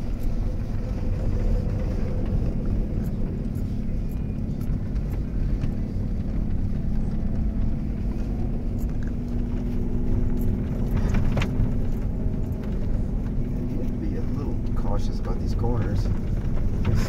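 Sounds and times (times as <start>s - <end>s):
car engine running: 0.0s - 17.0s
tyre and road rumble: 0.0s - 17.0s.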